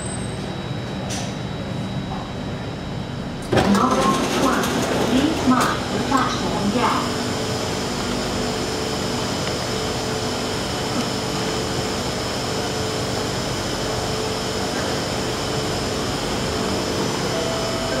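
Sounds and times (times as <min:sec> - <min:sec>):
ventilation machinery hum: 0:00.0 - 0:18.0.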